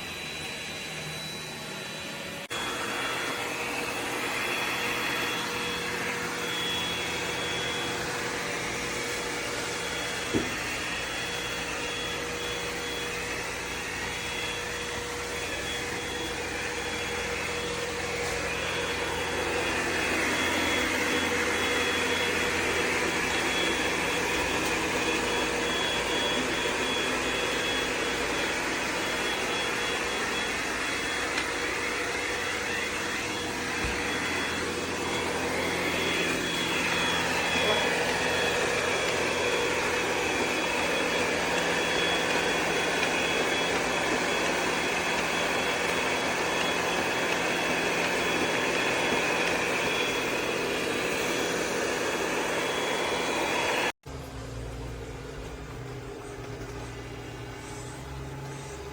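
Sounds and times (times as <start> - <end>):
robot vacuum whirring: 0.0 - 53.9, 55.2 - 58.9.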